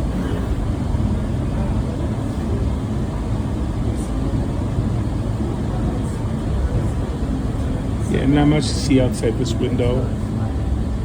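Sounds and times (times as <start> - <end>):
tram car rumble: 0.0 - 11.0.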